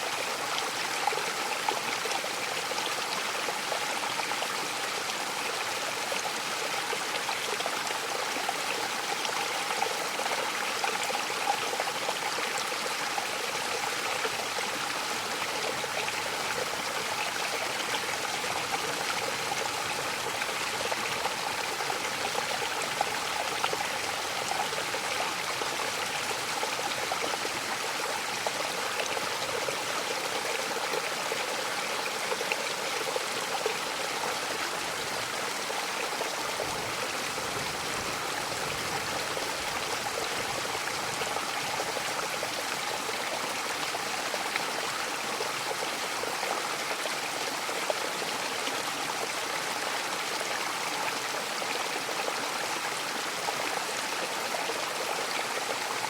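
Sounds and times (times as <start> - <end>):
waterfall rushing and splashing: 0.0 - 56.0.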